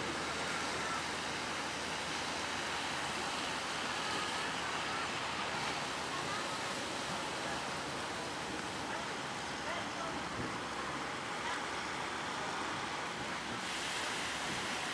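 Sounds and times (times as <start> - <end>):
wind: 0.0 - 14.9.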